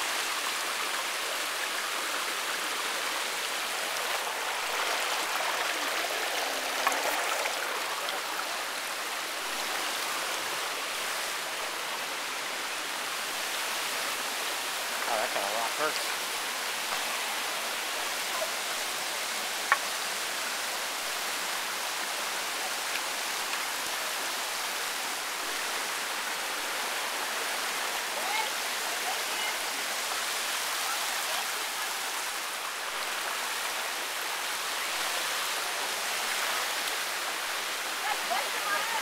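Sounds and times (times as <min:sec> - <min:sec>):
flowing river water: 0:00.0 - 0:39.0.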